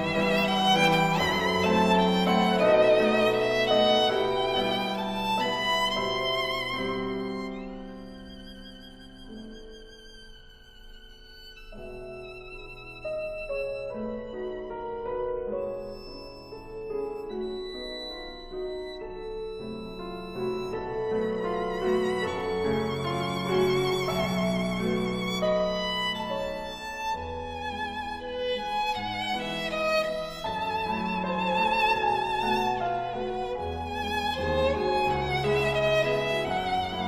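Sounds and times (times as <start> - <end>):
slow violin music with vibrato: 0.0 - 37.0.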